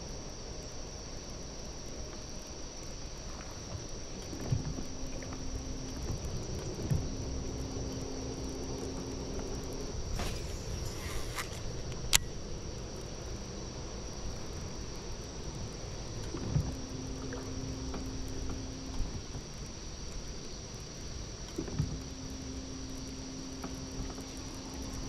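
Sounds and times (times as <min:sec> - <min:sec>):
high insect chorus: 0:00.0 - 0:25.0
low steady hum: 0:00.0 - 0:25.0
wind rumble: 0:00.0 - 0:25.0.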